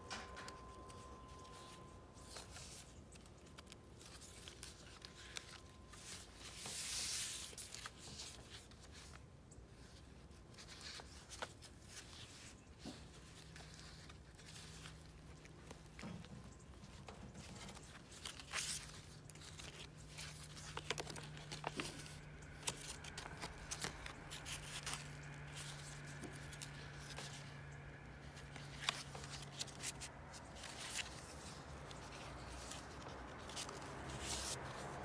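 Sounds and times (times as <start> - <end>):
paper pages rustling: 0.1 - 35.0.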